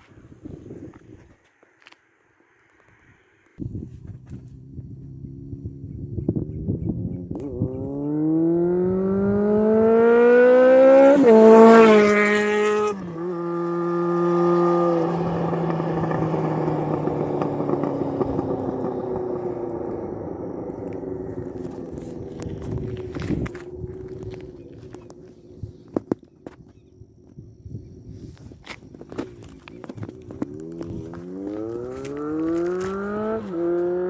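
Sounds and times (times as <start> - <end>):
motorcycle engine revving: 3.6 - 27.3, 28.8 - 34.0.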